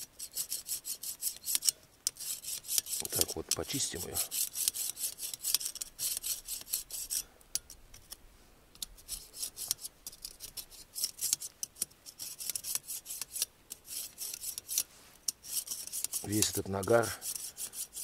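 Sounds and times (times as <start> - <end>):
scraper rasping across grill wires: 0.0 - 8.2, 8.8 - 18.0.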